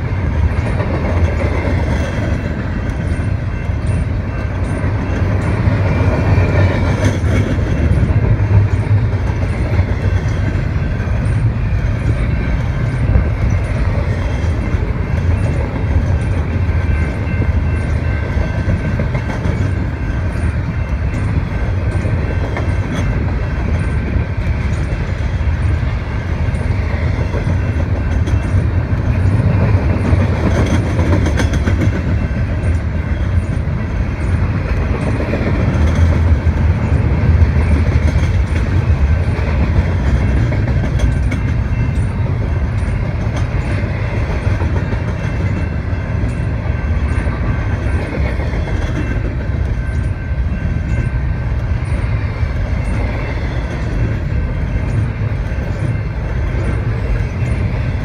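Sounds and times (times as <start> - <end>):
train wheels rumbling on rails: 0.0 - 58.0
wheels clicking over rail joints: 0.0 - 58.0.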